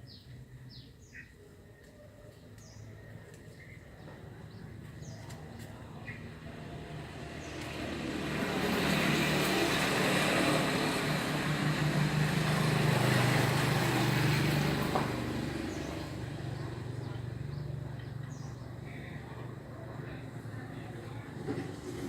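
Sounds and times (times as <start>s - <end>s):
road noise: 2.3s - 22.0s
vehicle engine hum: 3.7s - 22.0s.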